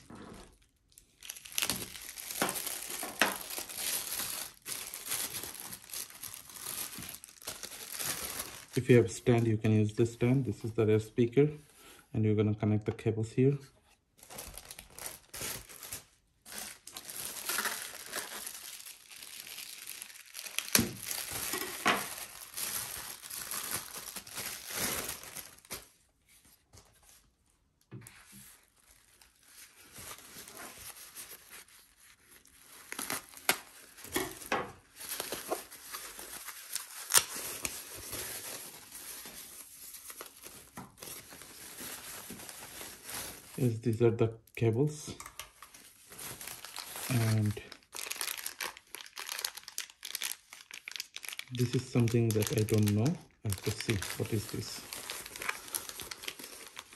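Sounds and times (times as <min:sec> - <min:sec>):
plastic wrapping crinkling: 0:00.0 - 0:10.7, 0:14.2 - 0:27.4, 0:28.1 - 0:43.9, 0:45.1 - 0:56.9.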